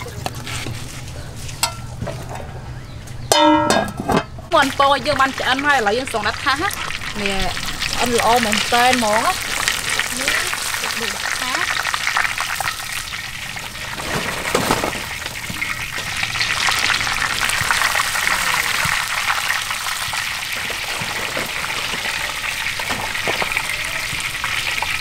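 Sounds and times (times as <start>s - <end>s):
chicken deep-frying in oil: 4.4s - 25.0s.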